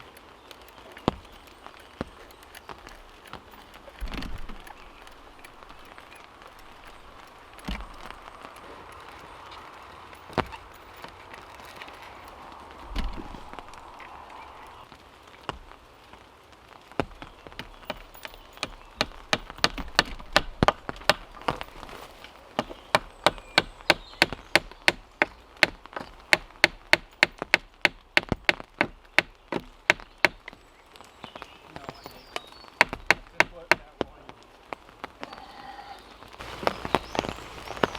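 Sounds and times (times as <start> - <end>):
hammering wooden pegs: 0.0 - 13.8, 17.0 - 30.6, 31.3 - 34.4.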